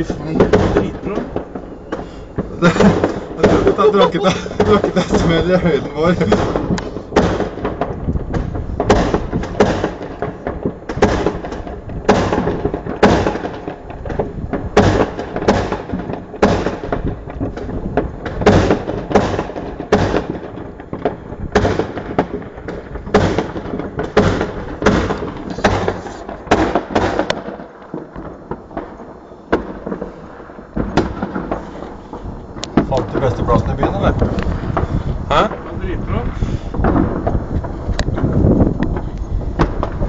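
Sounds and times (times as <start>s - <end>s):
fireworks exploding: 0.0s - 40.0s.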